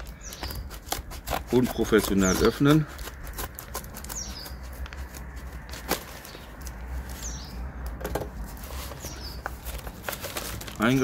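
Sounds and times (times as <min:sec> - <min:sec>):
packaging tearing and crinkling: 0:00.0 - 0:07.2, 0:08.4 - 0:11.0.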